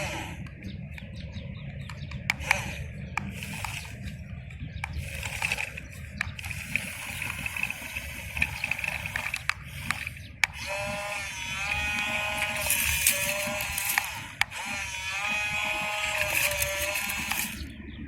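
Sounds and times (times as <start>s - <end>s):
small electric motors whirring: 0.0s - 17.8s
scattered clicks: 0.0s - 18.0s
motor whine changing pitch: 2.3s - 18.0s.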